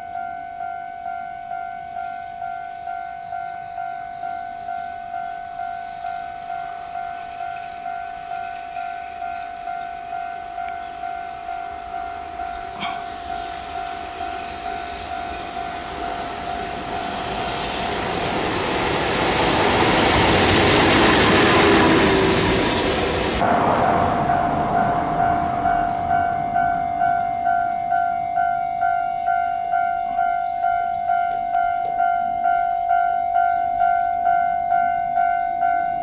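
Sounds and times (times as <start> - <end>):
railway warning bell dinging: 0.0 - 36.0
train running on rails: 0.0 - 36.0.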